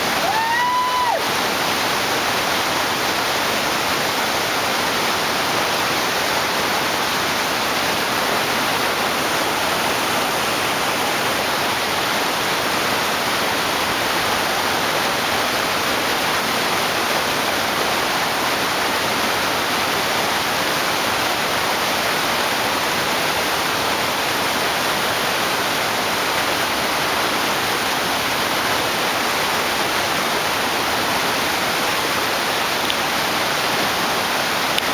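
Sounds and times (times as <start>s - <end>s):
whitewater rapid roaring: 0.0s - 34.9s.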